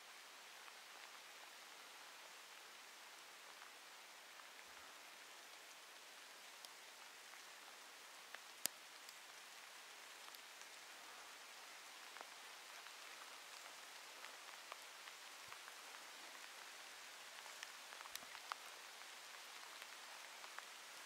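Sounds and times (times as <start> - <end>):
light rain patter: 0.0 - 21.0.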